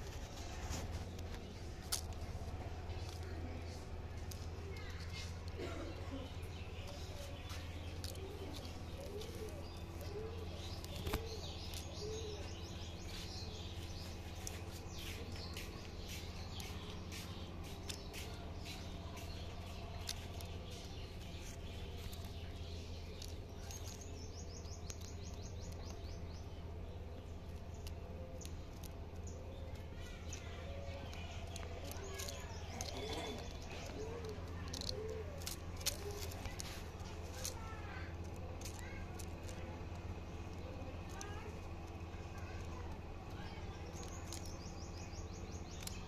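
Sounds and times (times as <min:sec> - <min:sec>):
birds chirping: 0:00.0 - 0:46.0
steady low hum: 0:00.0 - 0:46.0.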